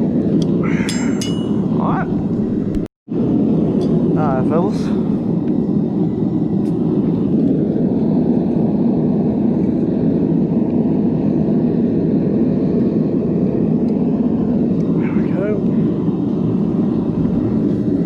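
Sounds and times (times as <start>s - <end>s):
gas forge burner roaring: 0.0s - 18.0s.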